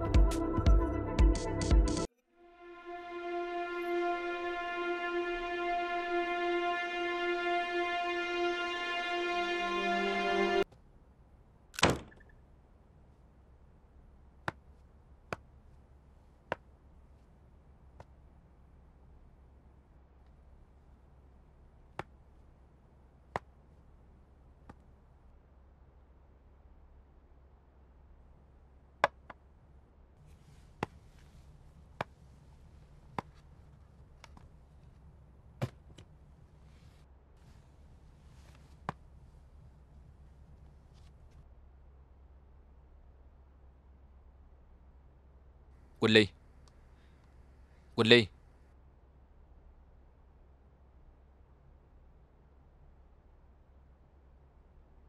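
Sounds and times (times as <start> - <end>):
faint steady hiss: 2.4 - 55.0.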